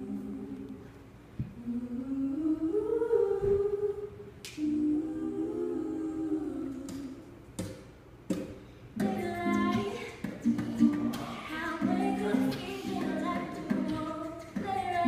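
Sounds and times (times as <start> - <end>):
women humming and singing harmony: 0.0 - 15.0.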